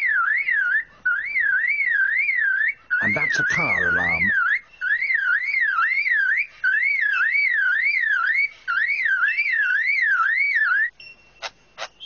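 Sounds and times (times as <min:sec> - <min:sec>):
lyrebird mimicking car alarm: 0:00.0 - 0:12.0.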